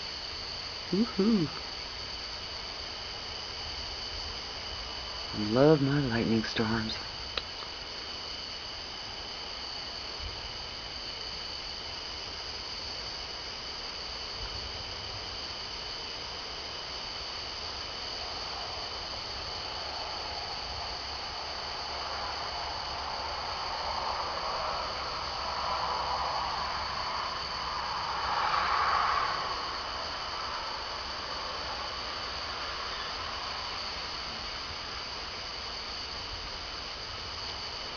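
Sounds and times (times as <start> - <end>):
insects buzzing: 0.0 - 37.9.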